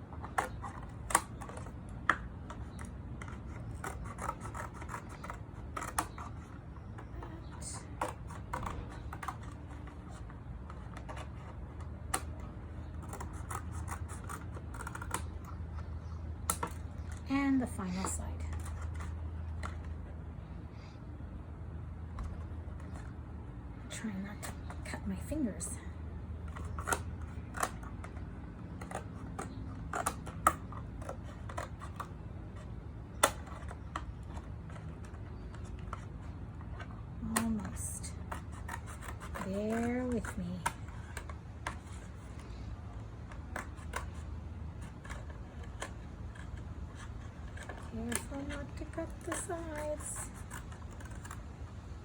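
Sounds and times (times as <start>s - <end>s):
scraping rubs: 0.0s - 21.0s, 26.4s - 52.0s
scissors snipping carton: 0.1s - 20.0s, 26.4s - 51.9s.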